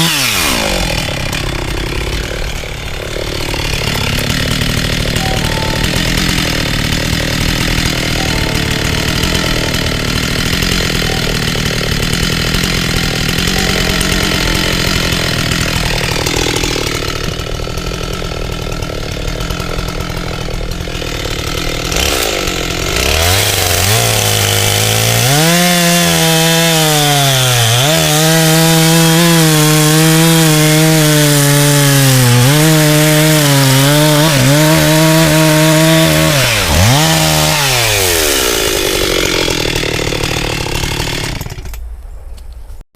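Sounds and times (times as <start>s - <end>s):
chainsaw running: 0.0s - 41.8s
chainsaw cutting wood: 0.0s - 41.9s.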